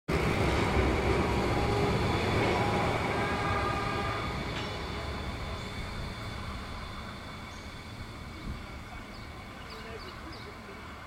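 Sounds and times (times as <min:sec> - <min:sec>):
high whine: 0:00.1 - 0:09.7
tram rumbling along track: 0:00.1 - 0:11.0.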